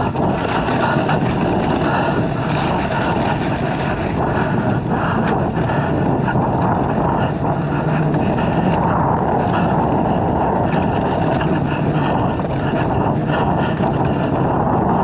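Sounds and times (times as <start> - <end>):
dirt bike engine running: 0.0 - 15.0
wind noise on microphone: 0.0 - 15.0.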